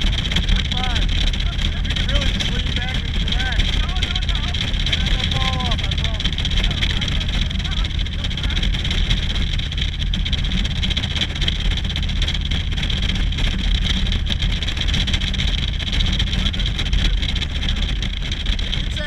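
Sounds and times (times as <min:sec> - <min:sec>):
motorcycle engine rumble: 0:00.0 - 0:19.0
wind and road noise: 0:00.0 - 0:19.0.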